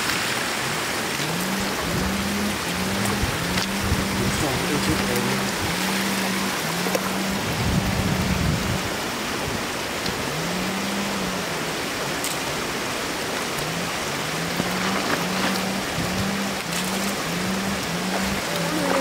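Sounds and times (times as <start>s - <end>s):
water hissing: 0.0s - 19.0s
low wavering hum: 0.2s - 9.3s, 9.9s - 19.0s.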